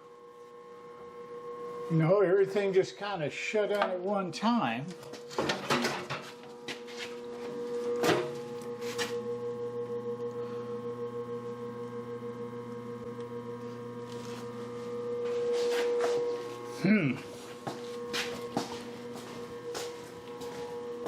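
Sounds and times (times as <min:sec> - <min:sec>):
grinder motor pulsing hum: 0:00.0 - 0:21.0.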